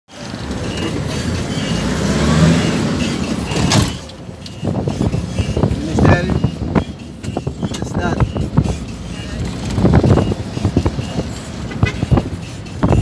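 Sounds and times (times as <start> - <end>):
vehicle engine and road rumble: 0.1 - 13.0.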